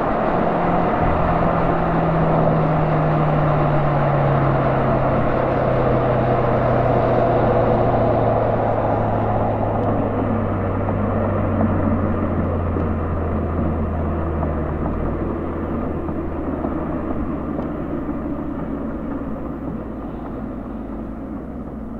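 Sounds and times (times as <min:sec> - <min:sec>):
car exhaust drone: 0:00.0 - 0:21.9.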